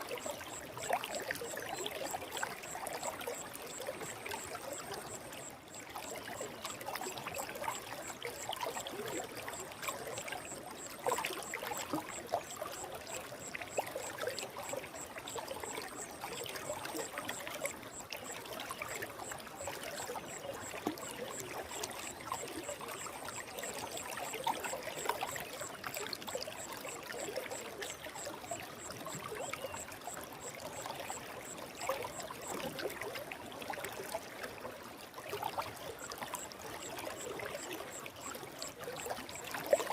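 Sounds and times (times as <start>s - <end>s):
forest stream babbling: 0.0s - 35.0s.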